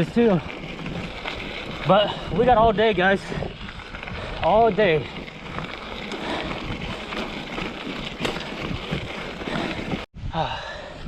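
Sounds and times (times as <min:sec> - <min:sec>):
bike tyres crunching on gravel: 0:00.0 - 0:10.1
wind buffeting microphone: 0:00.0 - 0:10.4.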